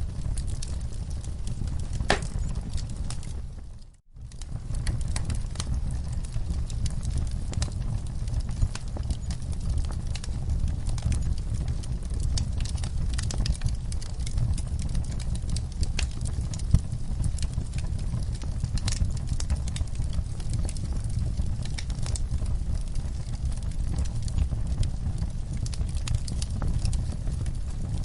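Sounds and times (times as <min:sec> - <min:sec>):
wood fire crackling in fireplace: 0:00.0 - 0:28.0.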